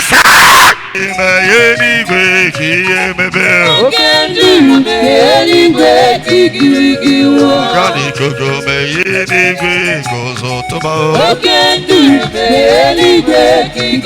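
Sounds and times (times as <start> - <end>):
person singing a melodic chant: 1.0 - 14.0.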